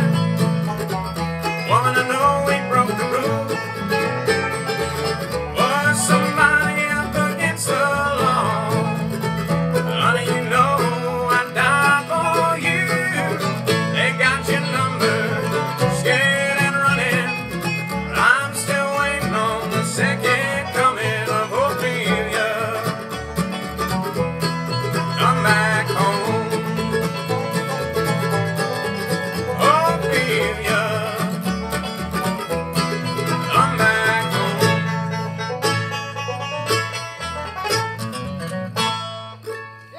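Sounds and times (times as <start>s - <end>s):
acoustic guitar picking: 0.0s - 39.9s
banjo: 0.0s - 39.9s
mandolin: 0.0s - 39.9s
upright bass line: 0.0s - 39.9s.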